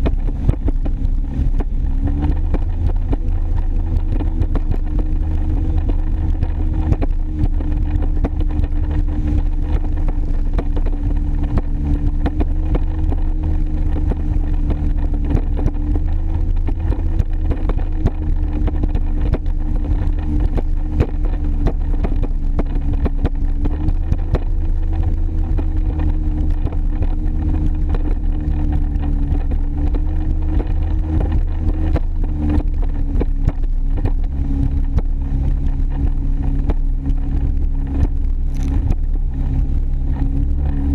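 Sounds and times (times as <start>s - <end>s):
jet ski engine running: 0.0s - 40.9s
water noise: 0.0s - 40.9s
wind noise: 0.0s - 40.9s.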